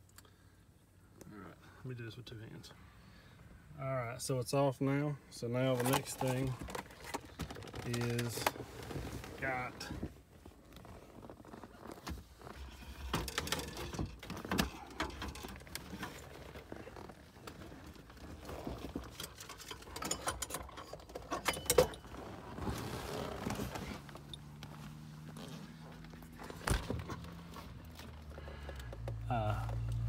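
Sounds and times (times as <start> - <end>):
handling clicks and rustling: 5.5 - 30.0.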